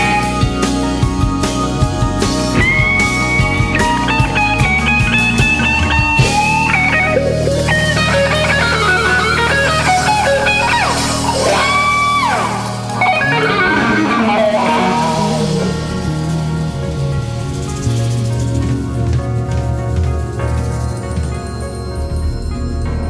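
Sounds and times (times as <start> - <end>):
rock music with sliding guitar: 0.0 - 22.0.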